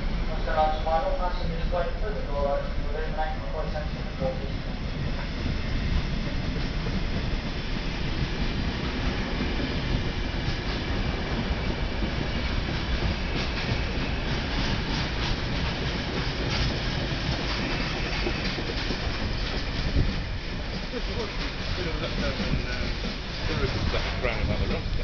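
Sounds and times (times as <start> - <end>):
freight wagons rumbling on rails: 0.0 - 25.0.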